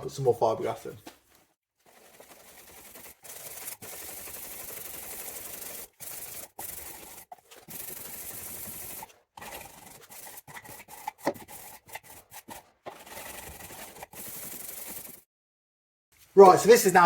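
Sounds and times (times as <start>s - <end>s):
sandpaper scrubbing: 0.6s - 15.2s.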